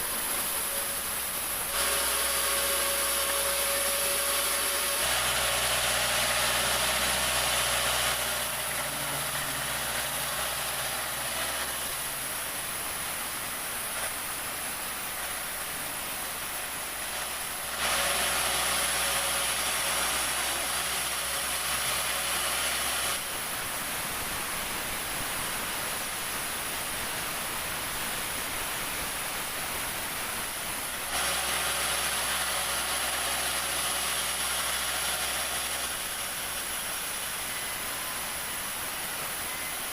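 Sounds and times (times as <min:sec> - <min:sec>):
high hiss: 0:00.0 - 0:39.9
sawmill machinery hum: 0:00.0 - 0:39.9.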